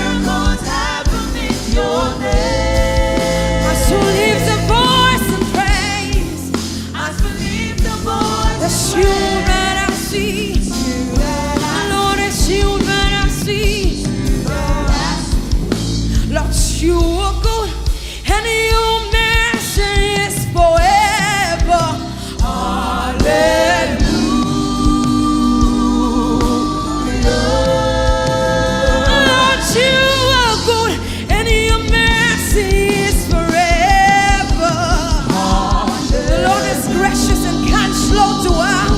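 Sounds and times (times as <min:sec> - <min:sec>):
voices singing gospel: 0:00.0 - 0:17.0, 0:18.6 - 0:38.9
band with bass and drums: 0:00.0 - 0:38.9.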